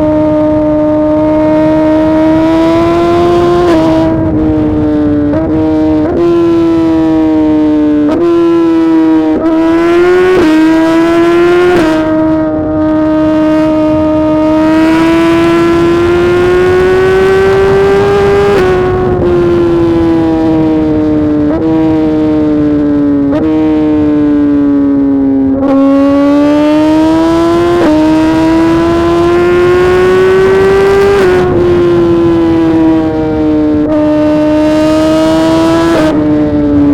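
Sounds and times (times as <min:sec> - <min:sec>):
motorcycle engine shifting gears: 0:00.0 - 0:36.9.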